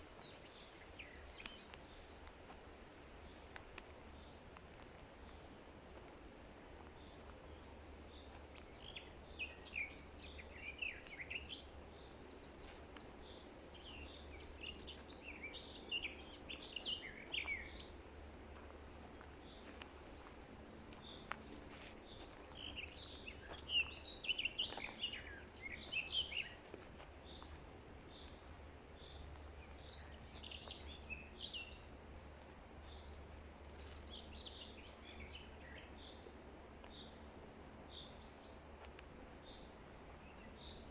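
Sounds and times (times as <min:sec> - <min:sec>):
faint low hum: 0:00.0 - 0:40.9
songbirds chirping: 0:00.0 - 0:40.9.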